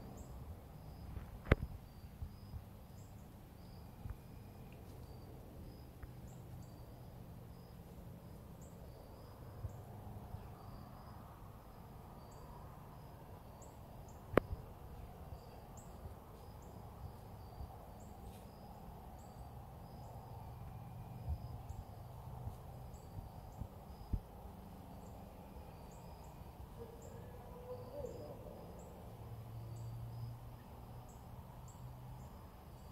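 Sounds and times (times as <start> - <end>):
faint high-pitched chirping: 0.0 - 32.9.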